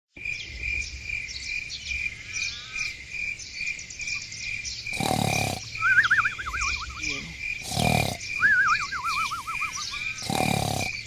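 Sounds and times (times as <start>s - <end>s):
birds chirping: 0.2s - 11.0s
crickets chirping: 0.2s - 11.0s.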